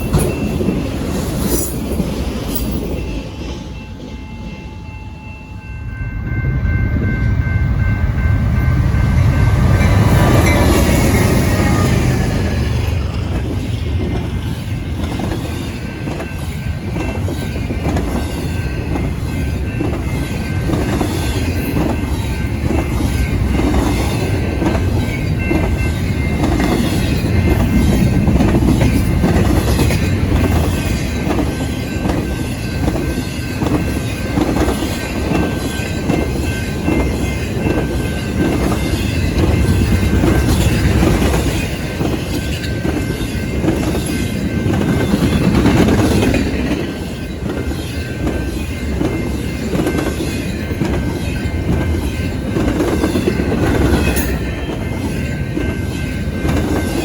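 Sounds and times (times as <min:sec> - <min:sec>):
train rumble: 0:00.0 - 0:57.0
train wheels clicking over rails: 0:09.4 - 0:57.0.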